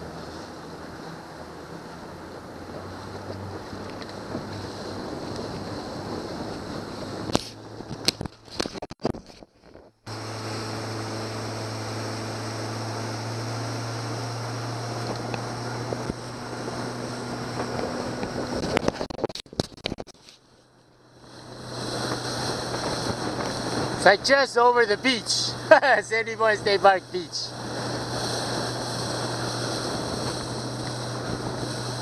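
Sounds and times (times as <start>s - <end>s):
wind on microphone: 0.0s - 20.0s, 21.2s - 32.0s
boat through choppy water: 0.0s - 32.0s
outboard motor humming: 0.0s - 32.0s.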